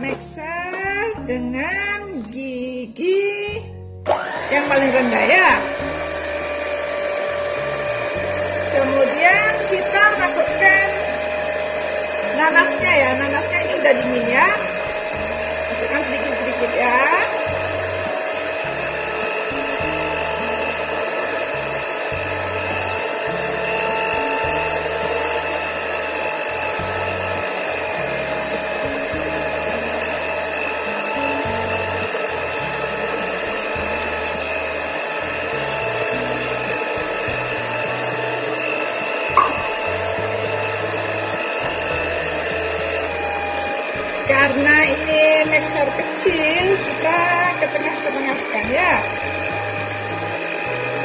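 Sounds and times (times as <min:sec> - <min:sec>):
stand mixer motor whining: 0:04.0 - 0:51.0.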